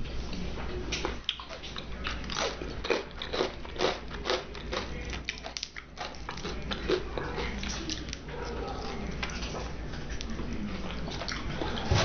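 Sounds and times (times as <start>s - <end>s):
crunchy chewing of fried chicken: 0.9s - 12.0s.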